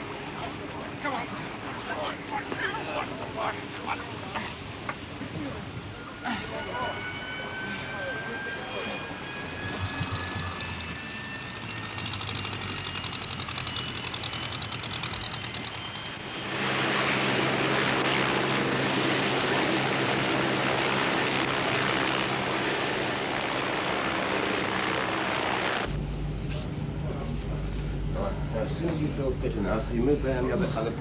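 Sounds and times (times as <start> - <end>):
aircraft engine whining: 0.0 - 31.0.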